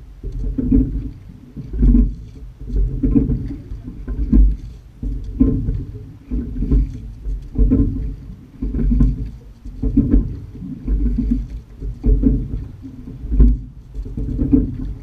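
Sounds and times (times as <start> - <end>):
water and wind rumble on hull: 0.0 - 15.0.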